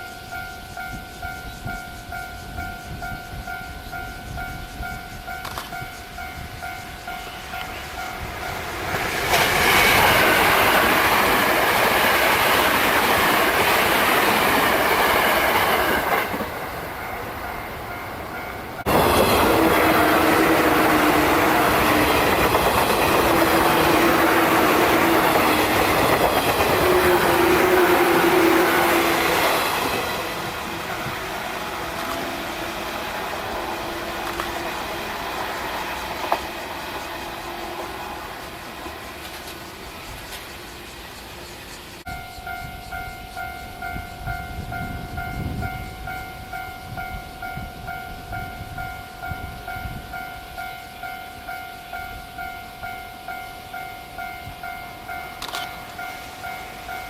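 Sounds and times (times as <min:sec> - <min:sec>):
train wheels clattering: 0:00.0 - 0:47.1
train wavering whine: 0:00.0 - 0:57.0.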